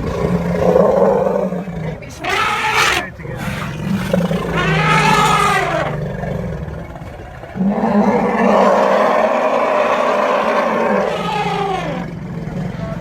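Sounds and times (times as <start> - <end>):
large animal calling: 0.0 - 12.1.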